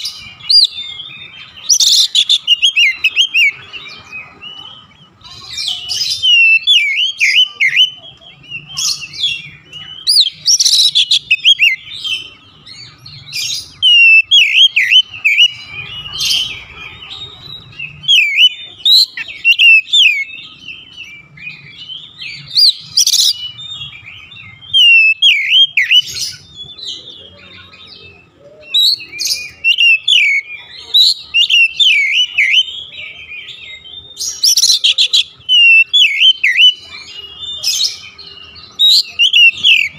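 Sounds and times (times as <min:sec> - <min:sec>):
bird singing whistles and chatters: 0:00.0 - 0:39.9.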